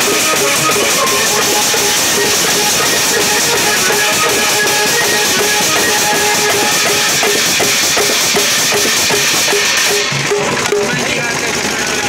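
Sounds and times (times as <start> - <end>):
frame drums struck with sticks: 0.0 - 11.9
barrel drum beating: 0.0 - 12.0.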